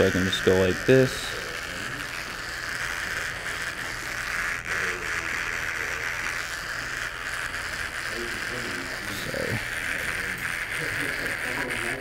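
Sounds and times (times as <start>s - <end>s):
electric hair trimmer buzzing: 0.0s - 12.0s.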